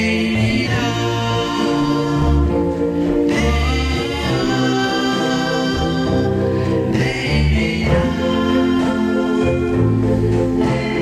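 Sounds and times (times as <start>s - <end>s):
bass line: 0.0s - 11.0s
vocal group singing harmonies: 0.0s - 11.0s.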